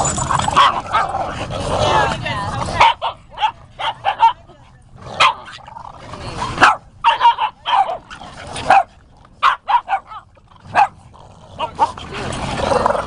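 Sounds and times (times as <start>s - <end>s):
dogs barking and yipping: 0.0s - 12.6s.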